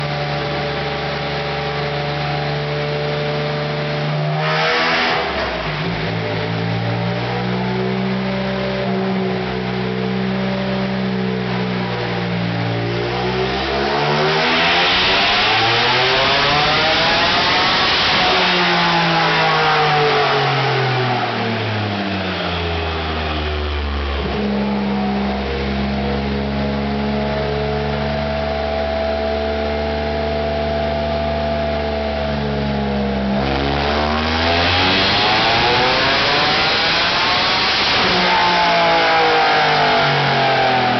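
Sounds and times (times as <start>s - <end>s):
engine revving: 0.0s - 40.9s.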